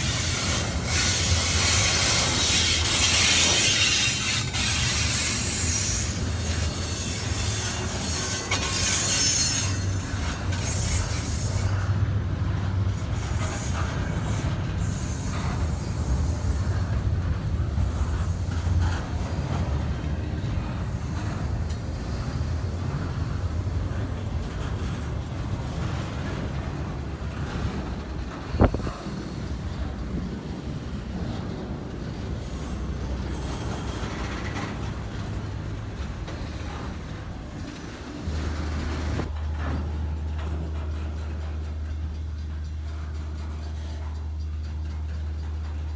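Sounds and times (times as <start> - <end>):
freight train cars rumbling past: 0.0 - 45.9.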